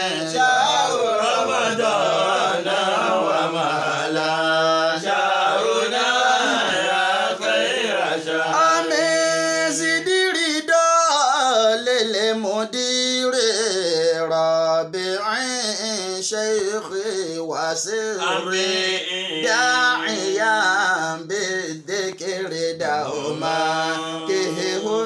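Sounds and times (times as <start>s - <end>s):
man singing: 0.0s - 5.3s, 6.1s - 25.0s.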